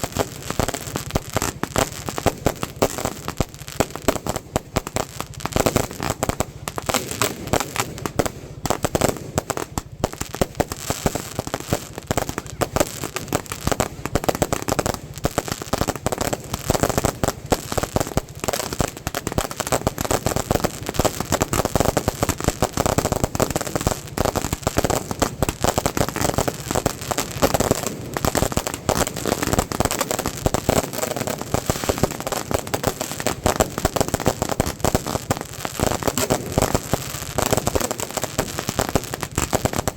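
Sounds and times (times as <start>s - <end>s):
firecrackers popping: 0.0s - 39.9s.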